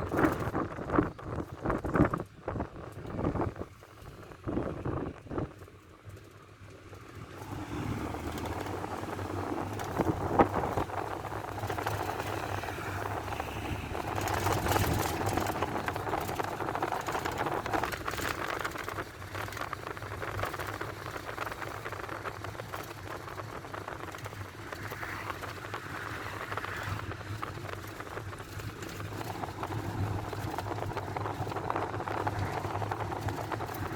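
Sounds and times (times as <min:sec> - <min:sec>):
minibus engine and road noise: 0:00.0 - 0:33.9.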